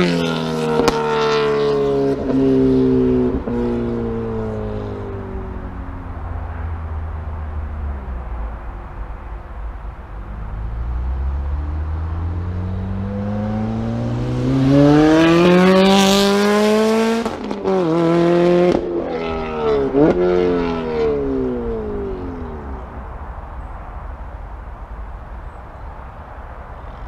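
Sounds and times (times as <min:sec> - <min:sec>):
car engine accelerating past: 0:00.0 - 0:23.2.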